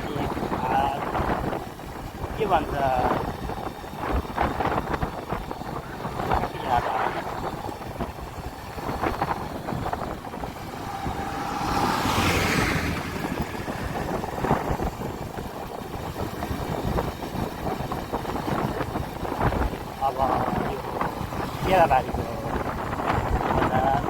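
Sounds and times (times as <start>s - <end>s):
vehicle road noise: 0.0s - 24.0s
wind on microphone: 0.0s - 24.0s.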